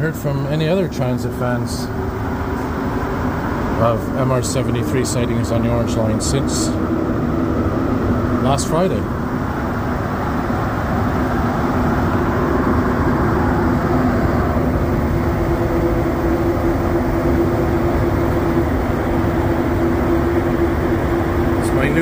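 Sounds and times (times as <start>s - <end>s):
metro train rumble: 0.0s - 22.0s
train motor hum: 0.0s - 22.0s.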